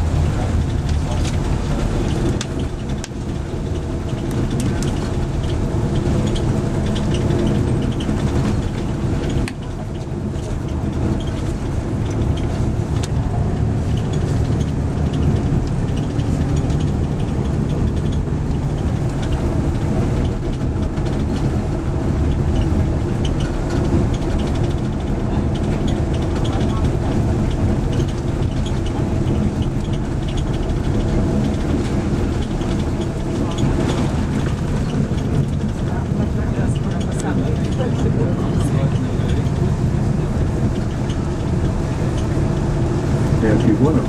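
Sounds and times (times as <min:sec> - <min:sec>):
coach engine and road drone: 0:00.0 - 0:44.0
small rattles: 0:00.6 - 0:44.0.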